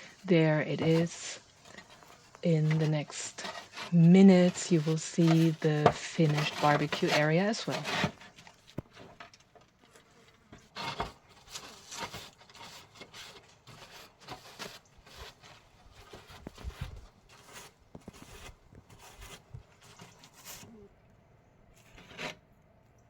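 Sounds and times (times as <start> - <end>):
scraping and rustling on roof: 0.0 - 20.9, 21.7 - 22.5.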